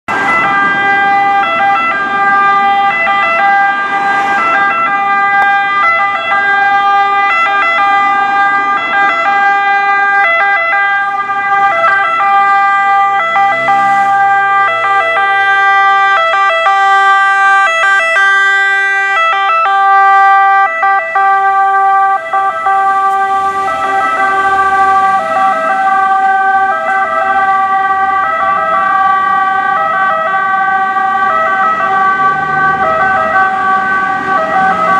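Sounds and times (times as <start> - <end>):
two-tone fire truck siren: 0.1 - 34.9.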